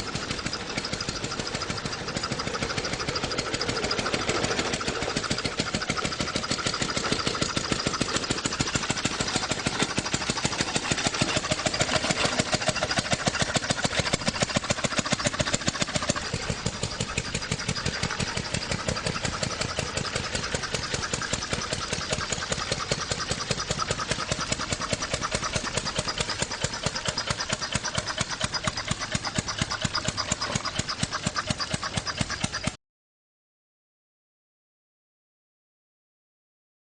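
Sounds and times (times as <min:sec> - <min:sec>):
engine running steadily: 0:00.0 - 0:32.8.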